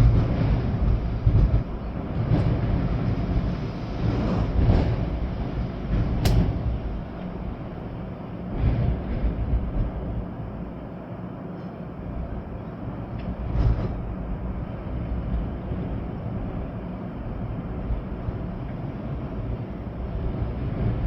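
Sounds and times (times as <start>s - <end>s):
rain: 0.0s - 21.0s.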